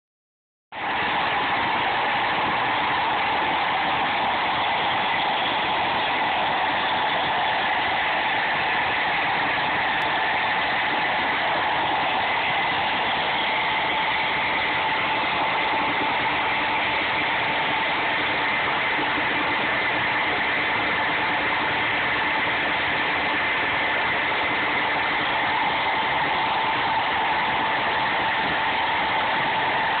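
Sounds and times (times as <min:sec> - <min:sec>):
boring machine whining: 0:00.8 - 0:30.0.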